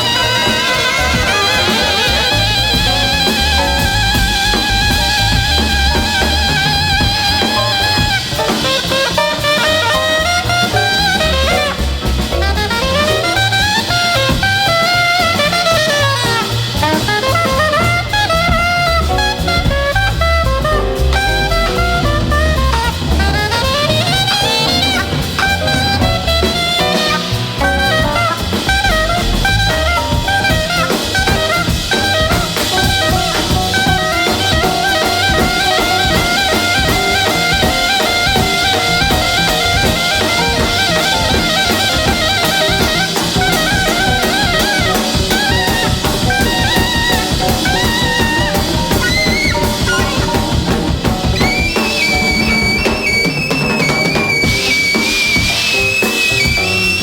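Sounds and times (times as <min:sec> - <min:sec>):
jazz with horn and drums: 0:00.0 - 0:57.0.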